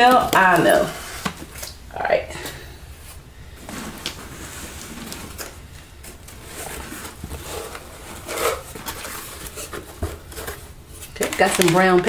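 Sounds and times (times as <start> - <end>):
rustling of flaps and packing: 0.0 - 12.0.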